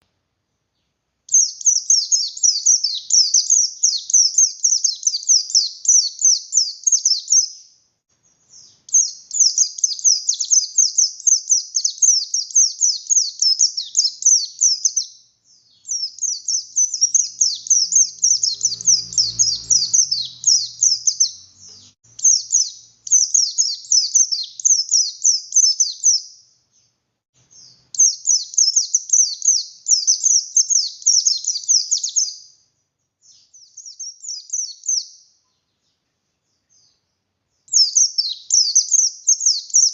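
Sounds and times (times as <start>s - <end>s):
bird chattering song: 1.3s - 32.6s, 33.2s - 39.9s.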